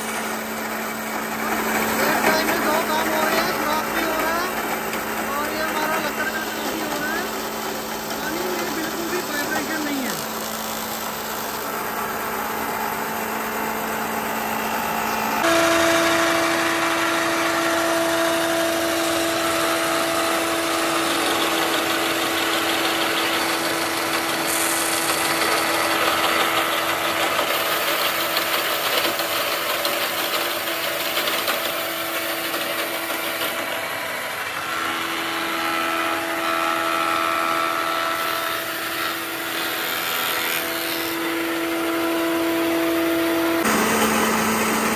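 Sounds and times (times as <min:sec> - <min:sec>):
woodworking planer running: 0:00.0 - 0:44.9.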